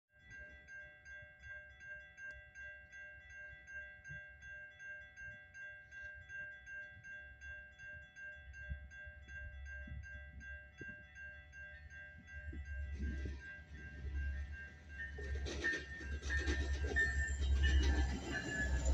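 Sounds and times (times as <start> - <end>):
crossing bell ringing: 0.2 - 18.9.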